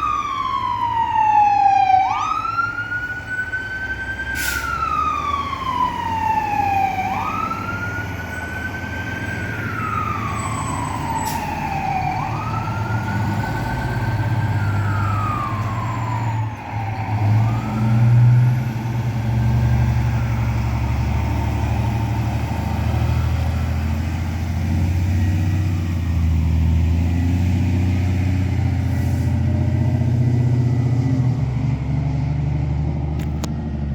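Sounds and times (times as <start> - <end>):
fire truck engine rumble: 0.0 - 33.9
fire truck siren wailing: 0.0 - 33.9.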